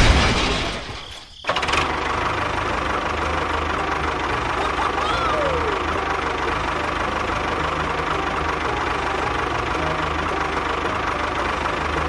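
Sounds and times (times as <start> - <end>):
tractor engine idling: 1.4 - 12.0.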